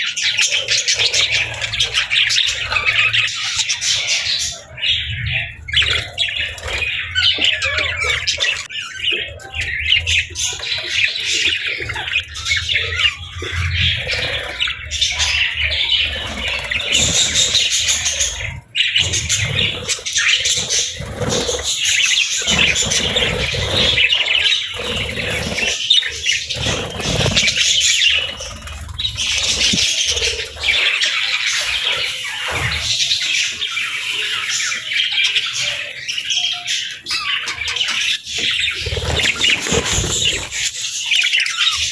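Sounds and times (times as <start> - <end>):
budgerigars chirping: 0.0 - 41.9.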